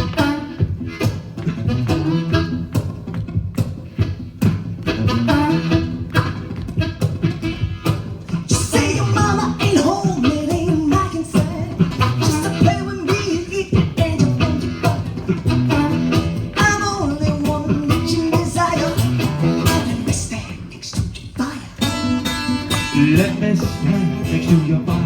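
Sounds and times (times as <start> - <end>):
harmonica: 0.0 - 25.0
strummed guitar rhythm: 0.0 - 25.0.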